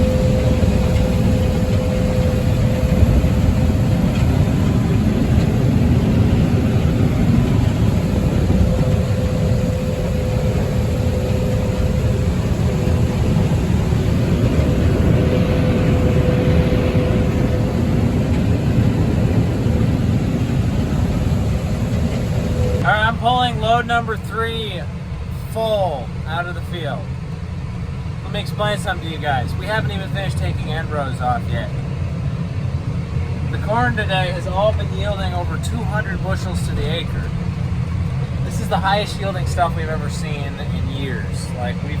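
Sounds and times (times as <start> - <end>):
combine harvester rumbling: 0.0 - 42.0
constant hum tone: 0.0 - 42.0.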